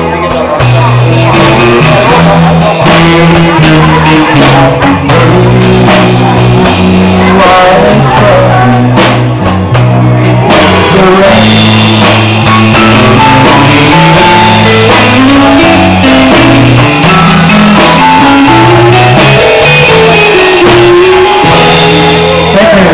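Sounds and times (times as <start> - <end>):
man singing into microphone: 0.0 - 9.4, 10.4 - 11.8, 12.8 - 16.8, 17.9 - 22.9
live country band ballad: 0.0 - 22.9.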